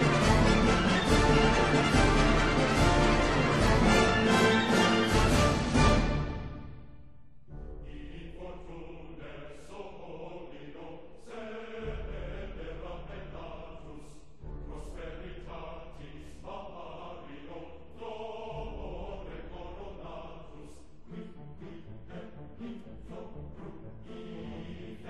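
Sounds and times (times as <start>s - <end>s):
chanted choir-like vocals: 0.0s - 6.6s, 7.8s - 25.0s.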